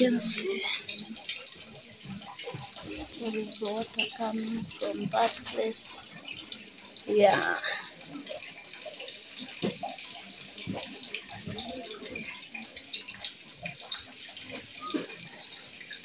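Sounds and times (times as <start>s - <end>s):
spring water running: 0.0s - 16.0s.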